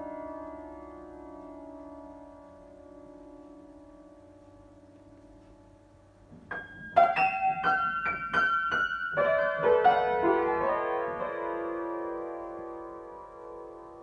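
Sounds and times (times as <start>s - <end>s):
piano notes: 0.0s - 14.0s.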